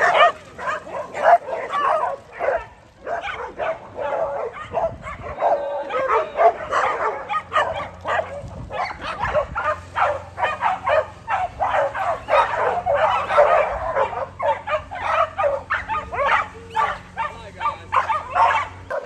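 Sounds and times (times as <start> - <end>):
dogs barking and yipping: 0.0 - 19.0.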